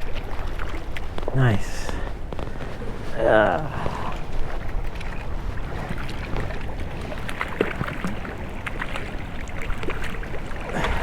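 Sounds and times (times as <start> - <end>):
creek water running: 0.0 - 11.0
short splashes and clicks: 0.0 - 11.0
wind rumble on microphone: 0.0 - 11.0.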